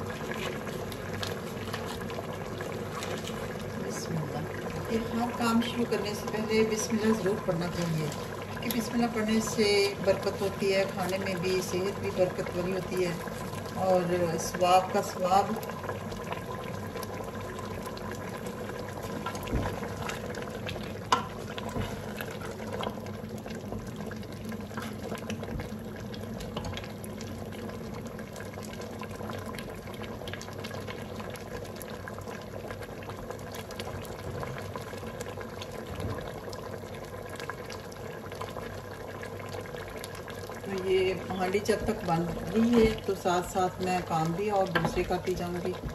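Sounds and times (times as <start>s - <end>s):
meat bubbling and sizzling in pot: 0.0s - 45.9s.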